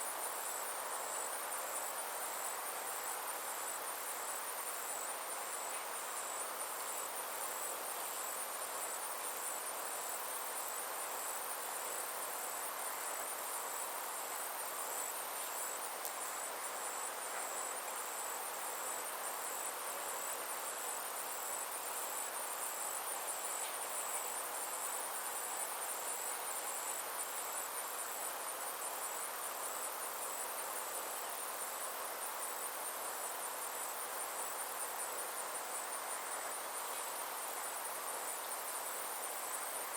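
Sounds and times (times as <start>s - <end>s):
insect chirping: 0.0s - 39.9s
insects trilling: 0.0s - 39.9s
soft outdoor hiss: 0.0s - 39.9s.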